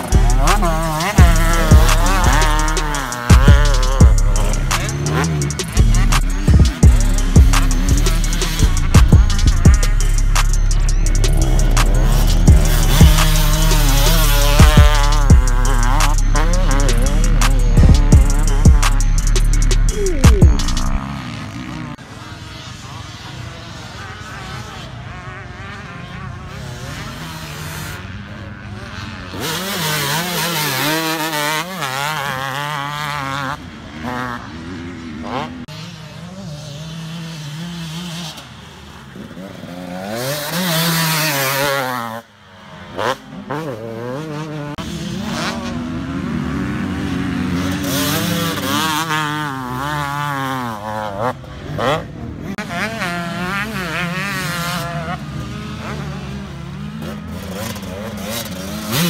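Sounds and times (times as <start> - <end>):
motocross bike engines: 0.0 - 59.0.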